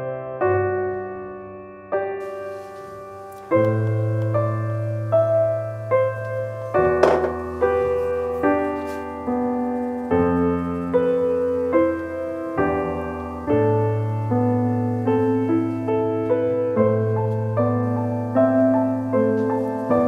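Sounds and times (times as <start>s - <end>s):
gentle piano tune: 0.0s - 20.0s.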